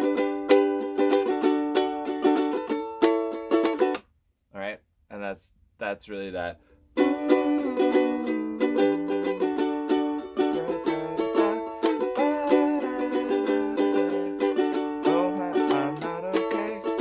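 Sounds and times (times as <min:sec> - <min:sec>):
ukulele strumming: 0:00.0 - 0:04.0, 0:06.9 - 0:17.0.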